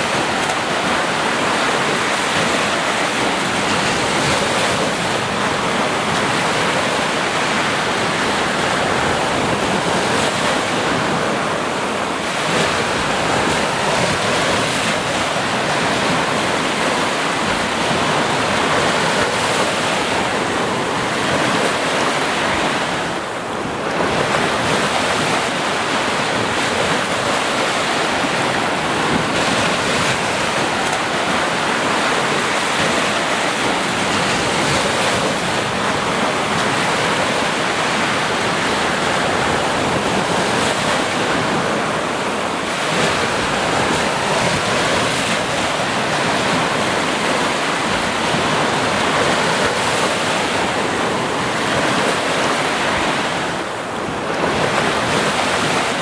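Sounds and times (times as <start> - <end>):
waves breaking on a beach: 0.0 - 56.0
wind on microphone: 0.0 - 56.0.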